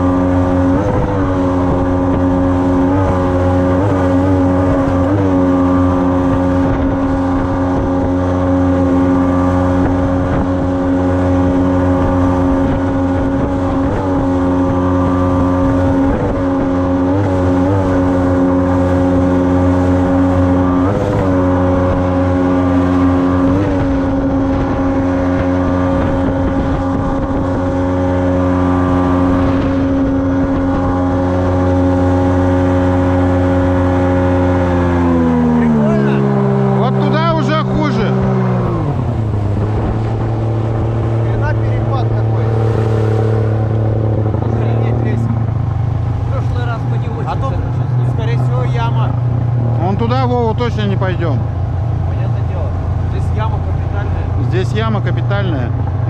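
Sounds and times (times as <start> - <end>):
outboard motor at high revs: 0.0 - 56.0.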